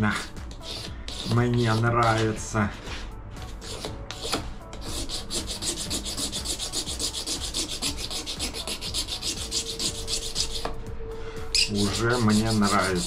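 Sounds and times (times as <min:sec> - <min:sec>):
sandpaper rubbing on wood: 0:00.1 - 0:10.7, 0:11.6 - 0:13.0.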